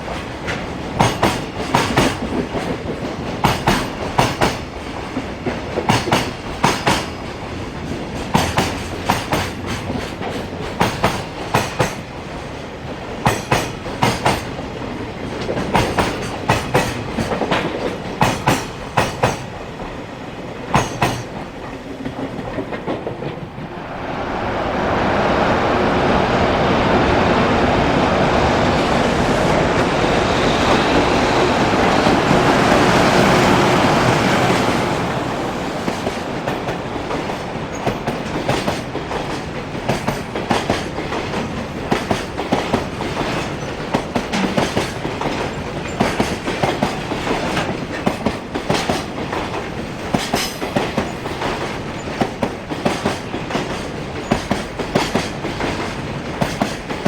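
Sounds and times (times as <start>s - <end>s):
train wheels clicking over rail joints: 0.0s - 23.8s, 30.6s - 57.0s
passing train rushing: 0.0s - 57.0s.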